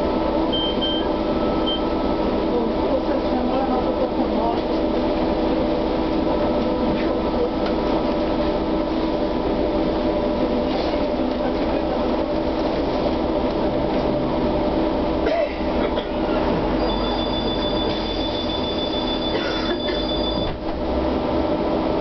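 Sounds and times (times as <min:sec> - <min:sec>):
trolleybus drive hum and whine: 0:00.0 - 0:22.0.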